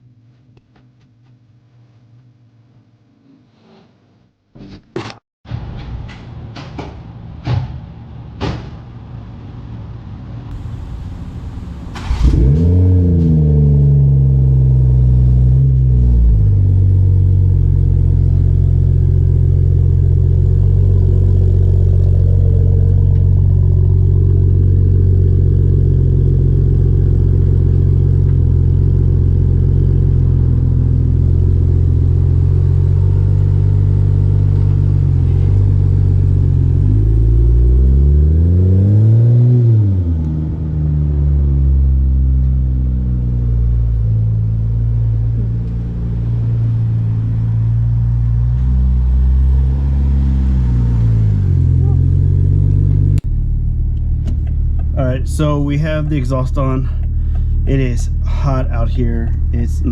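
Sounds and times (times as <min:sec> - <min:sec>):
car engine starting and idling: 0:10.5 - 0:39.1, 0:40.2 - 0:59.9.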